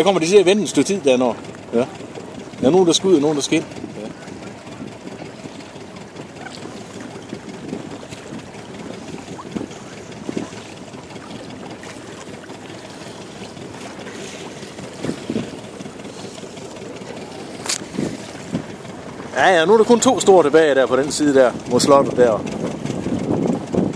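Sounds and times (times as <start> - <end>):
boat motor running: 0.0 - 23.9
water lapping against hull: 0.0 - 23.9
water slapping against boat: 0.0 - 23.9.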